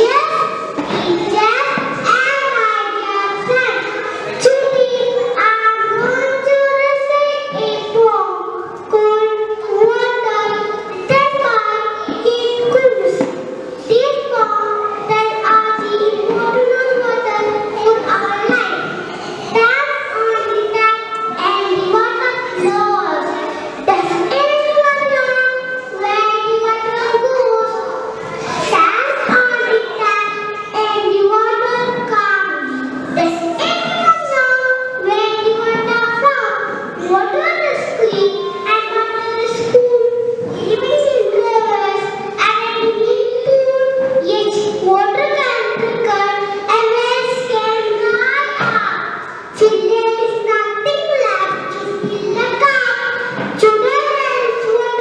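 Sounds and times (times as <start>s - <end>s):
girl reciting in sing-song voice: 0.0s - 55.0s.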